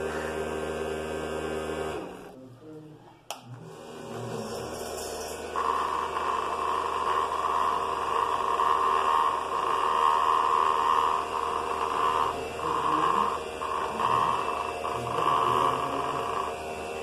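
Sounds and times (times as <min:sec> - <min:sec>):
small motor fan whirring: 0:00.0 - 0:02.4, 0:03.5 - 0:17.0.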